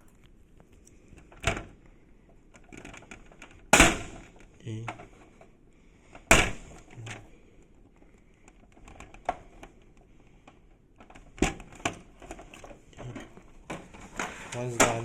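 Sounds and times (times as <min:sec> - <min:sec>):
sharp plastic clicks and knocks: 0:00.1 - 0:05.5, 0:07.9 - 0:15.0.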